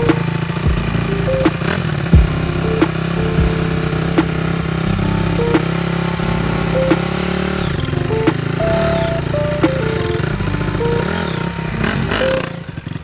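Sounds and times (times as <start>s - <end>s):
synth music with sharp beat: 0.0s - 12.7s
dirt bike engine running: 0.0s - 13.0s.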